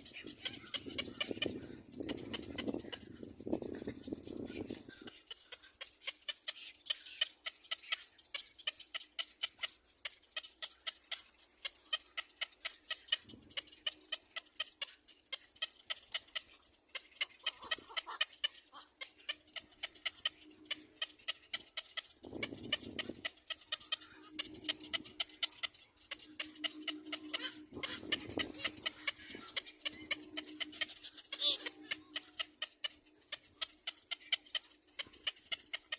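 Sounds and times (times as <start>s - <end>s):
baby bird chirping: 0.0s - 35.9s.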